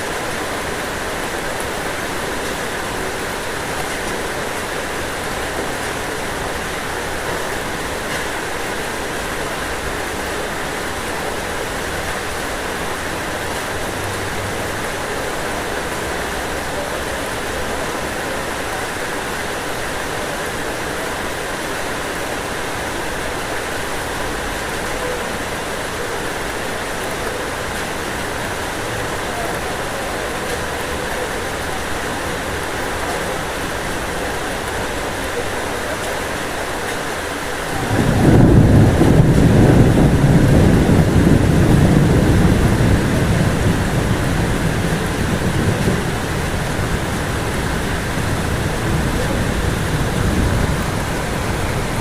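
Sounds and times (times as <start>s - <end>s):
heavy rain on a roof: 0.0s - 52.0s.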